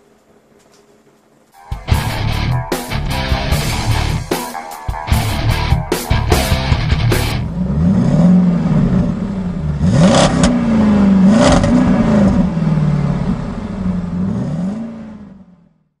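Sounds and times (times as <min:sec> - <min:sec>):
engine revving: 0:01.9 - 0:04.3, 0:04.9 - 0:15.8.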